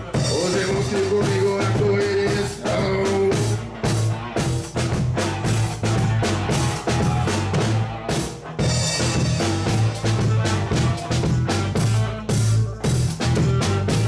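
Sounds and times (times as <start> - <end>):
band playing funk groove: 0.0 - 14.0
bass line: 0.0 - 14.0
drum kit with rimshots: 0.0 - 14.0.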